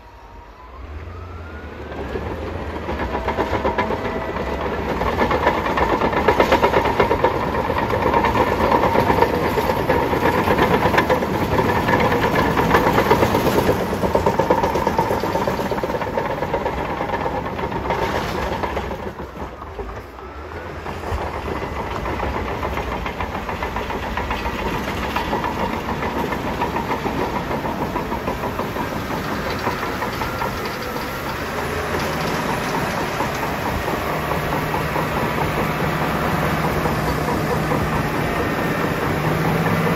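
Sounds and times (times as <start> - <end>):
diesel engine under load: 0.0 - 39.9
steel tracks clattering: 1.5 - 39.9.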